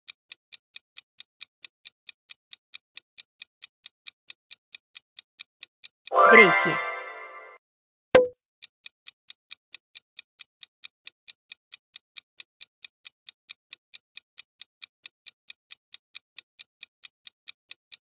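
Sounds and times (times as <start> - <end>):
clock-style ticking: 0.1 - 6.4, 9.0 - 18.0.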